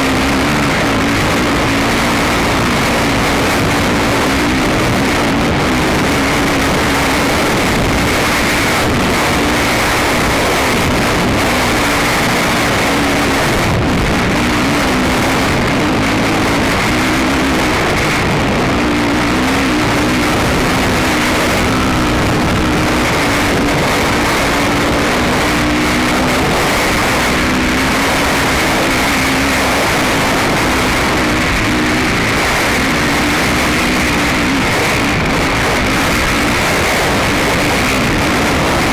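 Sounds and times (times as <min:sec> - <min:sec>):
quad engine revving hard: 0:00.0 - 0:38.9.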